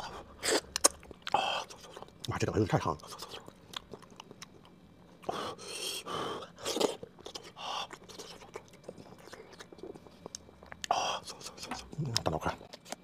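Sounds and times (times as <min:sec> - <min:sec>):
close chewing and mouth sounds: 0:00.0 - 0:13.0.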